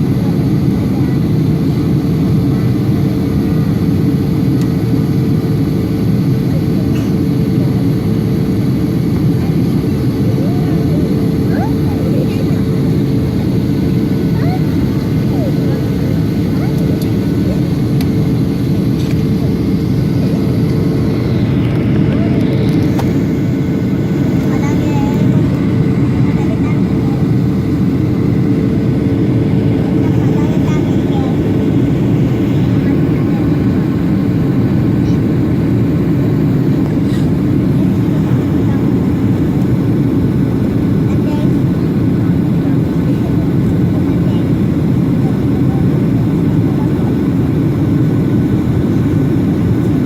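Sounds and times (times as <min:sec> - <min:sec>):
aircraft engines rumbling: 0:00.0 - 0:50.0
constant hum: 0:00.0 - 0:50.0.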